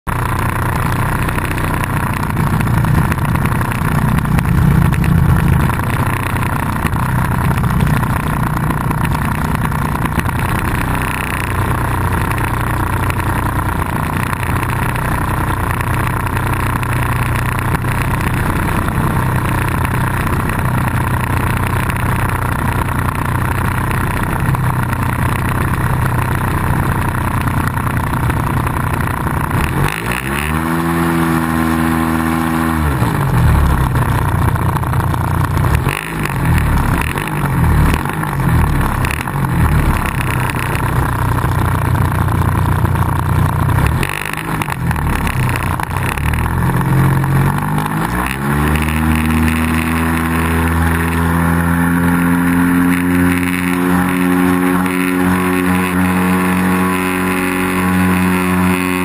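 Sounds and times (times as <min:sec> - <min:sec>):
model airplane engine idling: 0:00.1 - 0:48.2, 0:48.8 - 0:59.0.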